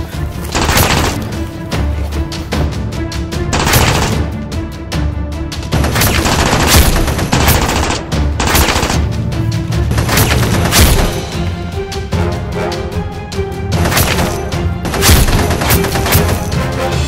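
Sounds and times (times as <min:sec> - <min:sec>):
action background music: 0:00.0 - 0:17.0.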